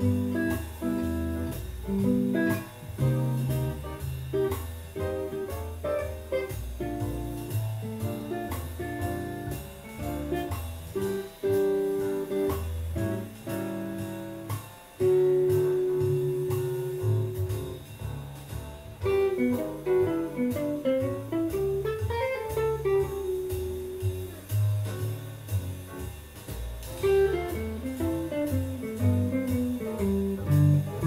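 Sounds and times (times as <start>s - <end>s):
electric guitar jazz fingerstyle: 0.0s - 31.0s.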